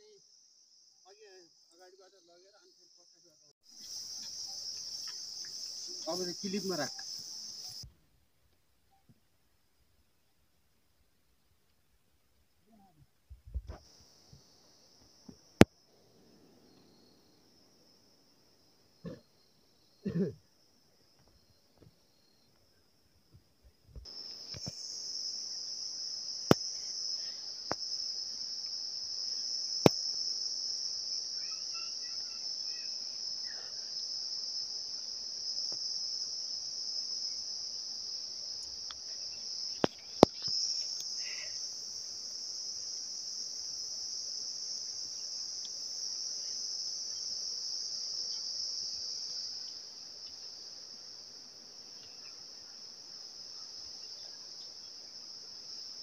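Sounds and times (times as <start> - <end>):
high-pitched insect chorus: 0.0 - 7.9, 13.6 - 23.4, 24.0 - 56.0.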